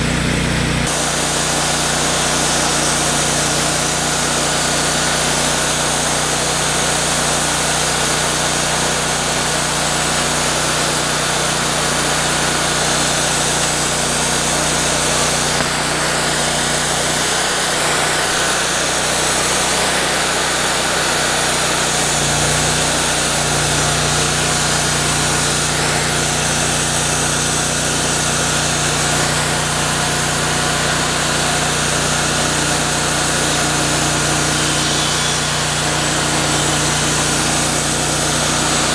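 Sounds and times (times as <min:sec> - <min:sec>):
band sawmill cutting log: 0:00.0 - 0:38.9.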